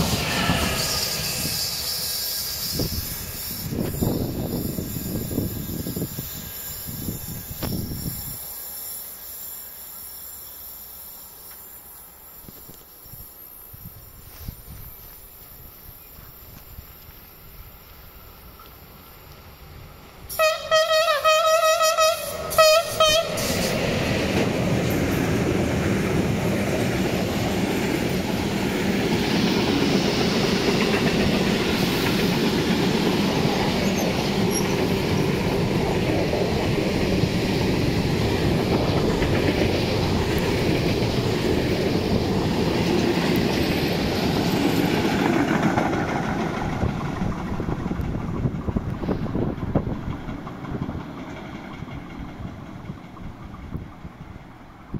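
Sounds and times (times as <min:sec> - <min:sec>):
freight train wheels rumbling: 0:00.0 - 0:10.4, 0:11.0 - 0:54.9.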